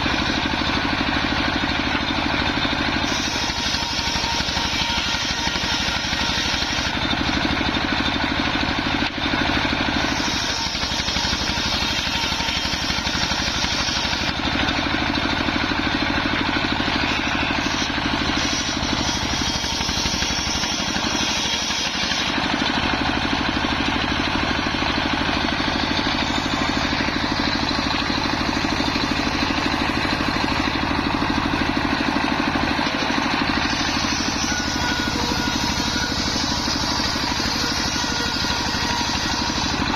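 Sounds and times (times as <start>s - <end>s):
engine-driven sawmill cutting wood: 0.0s - 39.9s.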